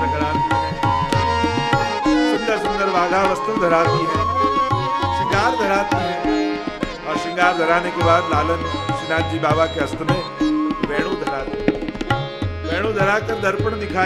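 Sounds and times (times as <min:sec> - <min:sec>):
held gliding melody: 0:00.0 - 0:14.0
tabla rhythm: 0:00.0 - 0:14.0.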